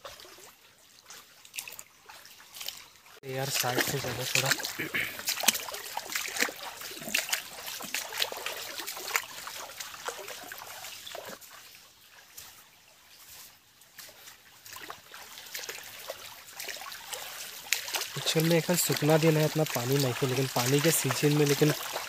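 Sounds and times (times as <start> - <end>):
light water splashes: 0.0 - 22.0
footsteps through undergrowth: 1.6 - 22.0.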